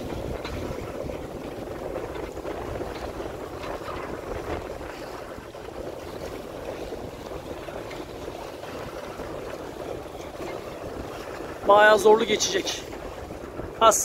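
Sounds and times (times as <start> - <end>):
rush of wind and water: 0.0 - 14.0.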